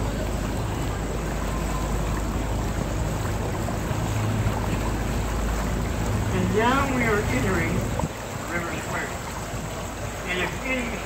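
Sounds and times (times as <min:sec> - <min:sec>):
boat motor humming: 0:00.0 - 0:11.0
water noise: 0:00.0 - 0:11.0.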